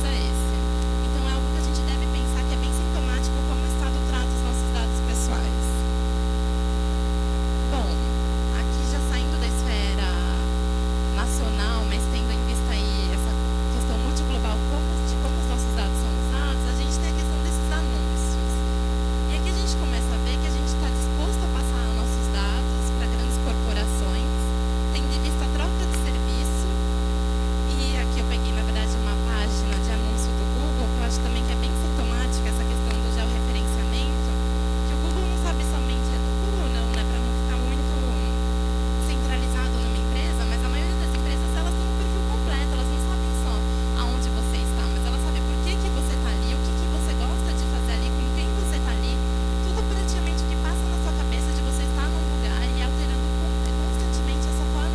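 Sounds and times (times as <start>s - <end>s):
electrical mains hum: 0.0s - 54.9s.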